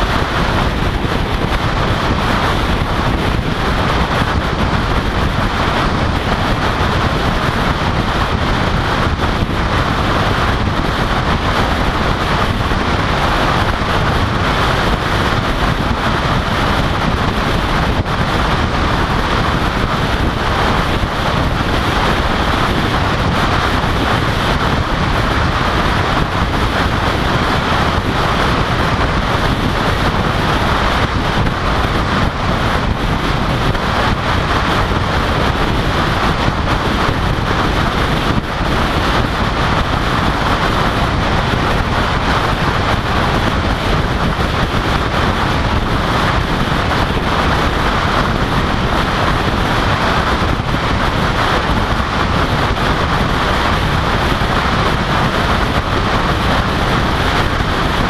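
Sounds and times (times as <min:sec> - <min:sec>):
car tyre noise: 0:00.0 - 0:58.0
wind on microphone: 0:00.0 - 0:58.0.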